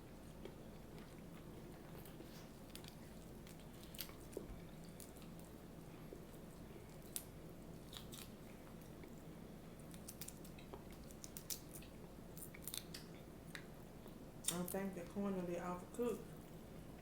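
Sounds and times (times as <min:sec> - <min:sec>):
person chewing food: 0:00.0 - 0:14.6
faint low hum: 0:00.0 - 0:17.0.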